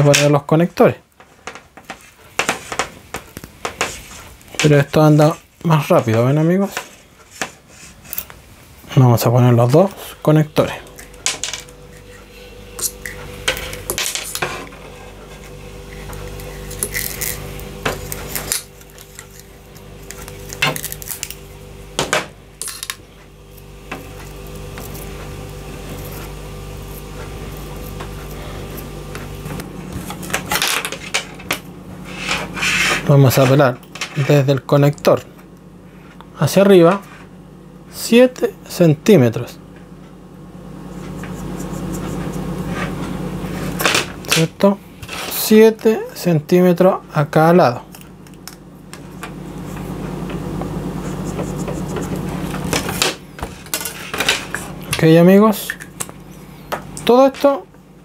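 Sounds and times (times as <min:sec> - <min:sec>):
steady hum with faint ticks: 0:00.0 - 0:58.0.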